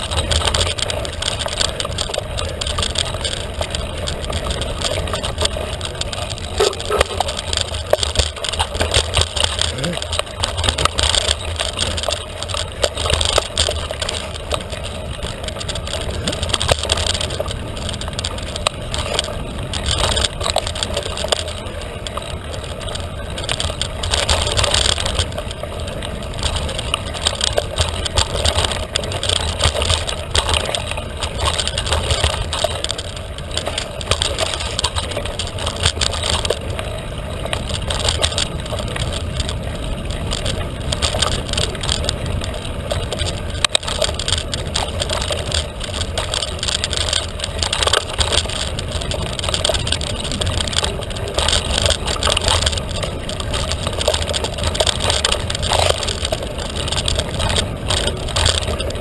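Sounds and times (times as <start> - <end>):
mountain bike rushing on dirt trail: 0.0 - 59.0
tyres clicking and rattling: 0.0 - 59.0.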